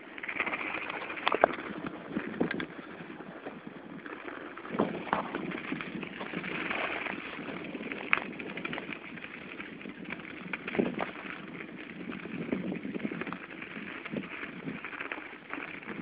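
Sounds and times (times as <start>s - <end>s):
crunching on packed snow: 0.4s - 16.0s.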